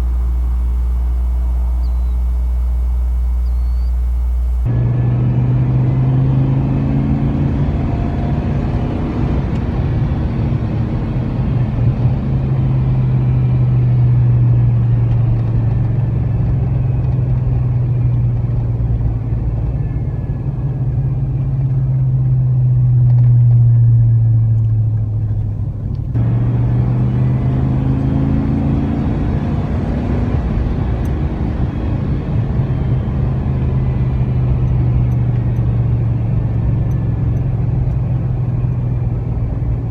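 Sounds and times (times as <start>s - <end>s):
low exhaust drone: 0.0s - 39.9s.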